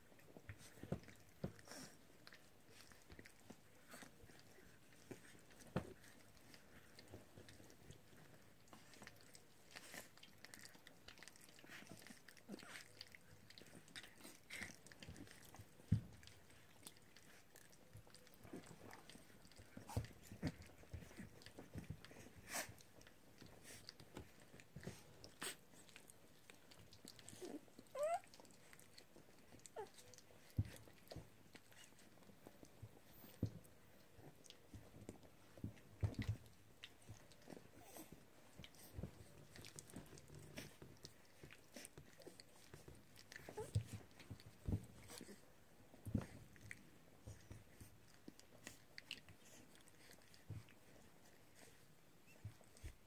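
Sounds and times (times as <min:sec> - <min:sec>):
puppies chewing and gnawing: 0:00.0 - 0:53.0.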